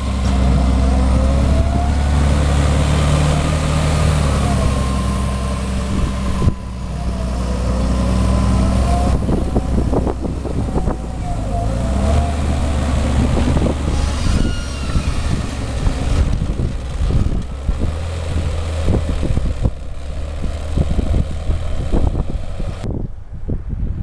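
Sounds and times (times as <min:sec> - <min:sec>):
tractor diesel engine running: 0:00.0 - 0:22.9
wind buffeting microphone: 0:00.0 - 0:24.0.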